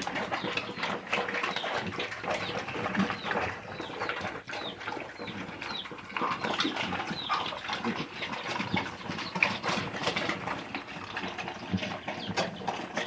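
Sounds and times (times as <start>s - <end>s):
piglets grunting and squealing: 0.0s - 13.0s.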